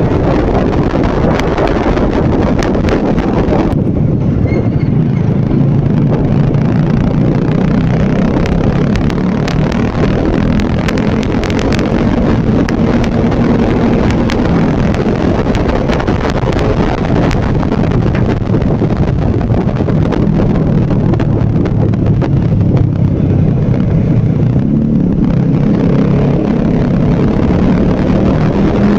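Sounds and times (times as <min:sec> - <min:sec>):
motorcycle engine running: 0:00.0 - 0:28.9
wind rushing over microphone: 0:00.0 - 0:28.9.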